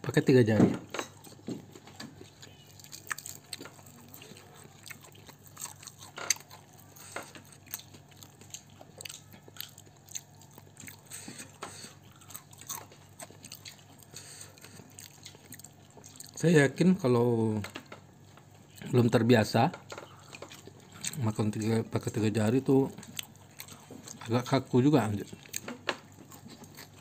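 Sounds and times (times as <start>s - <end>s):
chewing and crunching fish: 0.8s - 16.5s, 17.7s - 27.0s.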